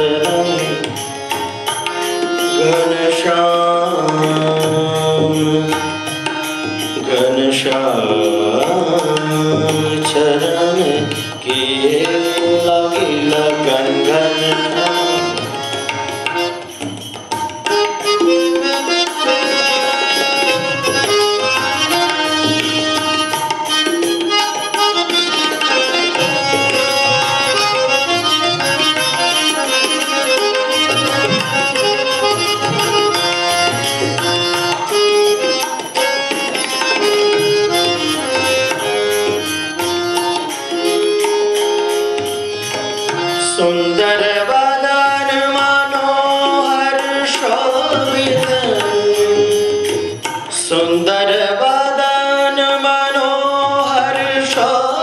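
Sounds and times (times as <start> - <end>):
melody of held notes: 0.0 - 50.6
tabla rhythm: 0.0 - 55.0.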